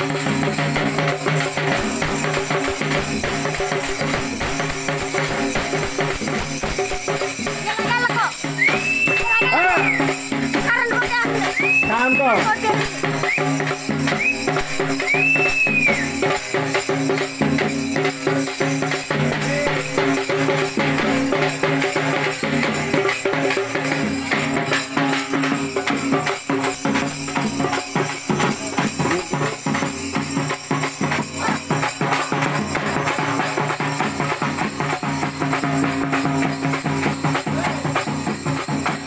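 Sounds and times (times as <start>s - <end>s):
drums beating fast rhythm: 0.0s - 39.0s
jingling rattling percussion: 0.0s - 39.0s.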